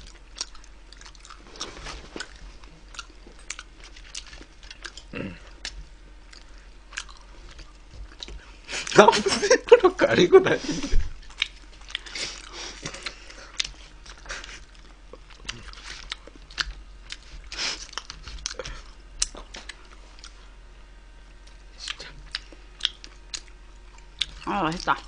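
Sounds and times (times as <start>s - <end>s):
chewing and biting crunches: 0.0s - 8.7s, 11.2s - 20.5s, 21.4s - 25.0s.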